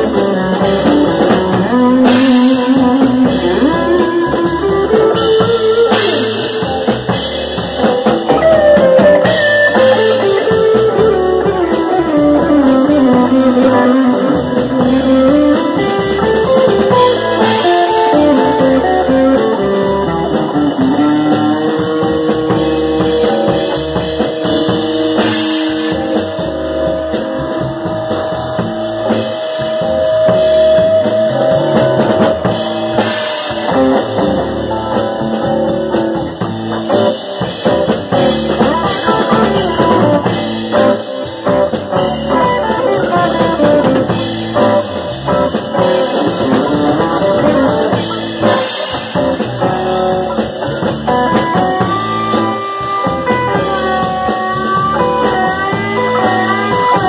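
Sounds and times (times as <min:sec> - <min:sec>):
drum kit: 0:00.0 - 0:57.0
electric guitars: 0:00.0 - 0:57.0
live band playing: 0:00.0 - 0:57.0.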